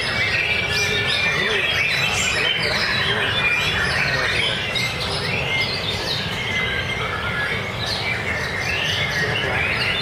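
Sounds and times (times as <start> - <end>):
birds singing whistled phrases: 0.0 - 10.0.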